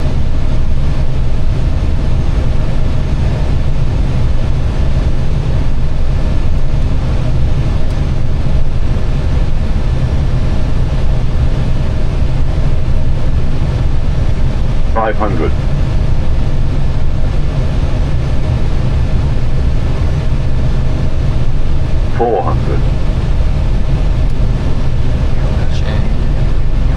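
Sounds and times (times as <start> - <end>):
airliner cockpit engine roar: 0.0 - 26.9
faint steady hum: 0.0 - 26.9.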